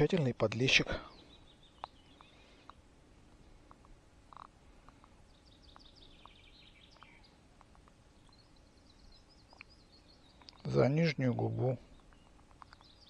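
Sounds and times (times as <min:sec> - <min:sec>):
small bird chirping: 0:00.0 - 0:02.9, 0:03.5 - 0:13.0.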